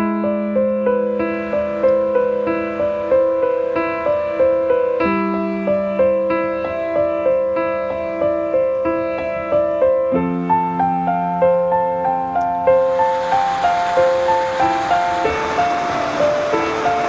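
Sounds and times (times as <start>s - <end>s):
soft keyboard melody: 0.0s - 17.0s.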